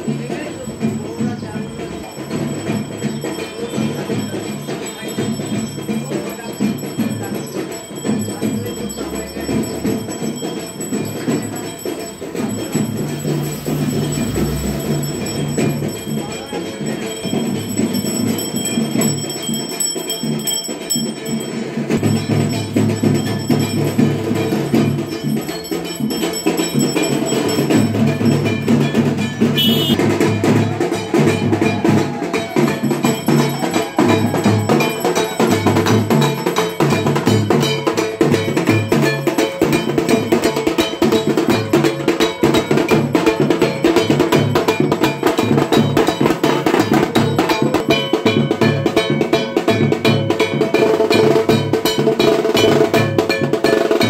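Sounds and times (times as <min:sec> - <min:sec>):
drumming: 0:00.0 - 0:54.0.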